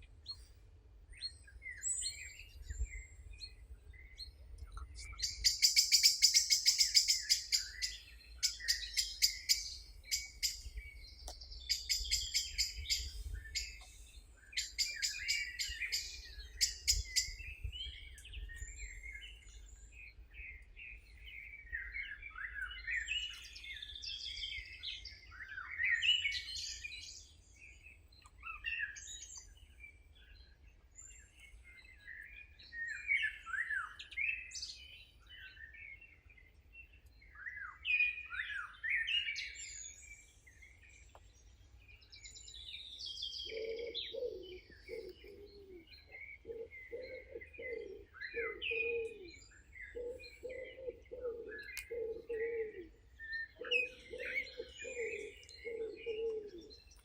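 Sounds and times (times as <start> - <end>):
birds singing: 0.0 - 57.0.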